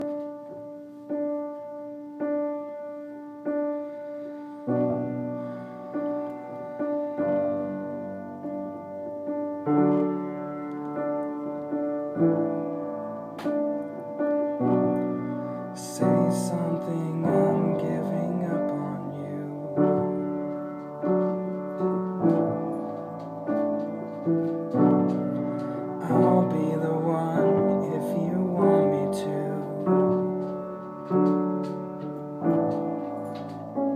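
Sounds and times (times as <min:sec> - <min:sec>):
piano playing slow ballad: 0:00.0 - 0:33.9.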